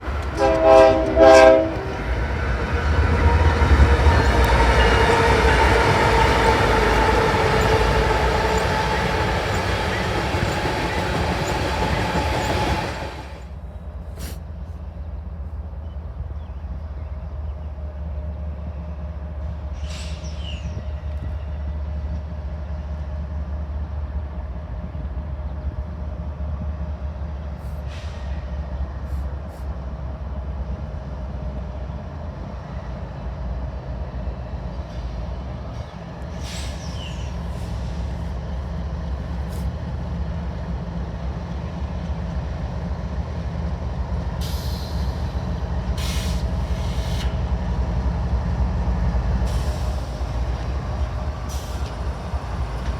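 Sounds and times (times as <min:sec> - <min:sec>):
diesel locomotive engine rumble: 0:00.0 - 0:52.9.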